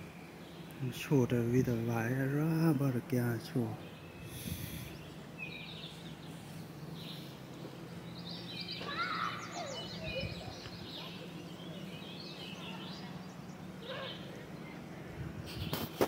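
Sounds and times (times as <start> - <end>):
birds singing and chirping: 0.0 - 16.0.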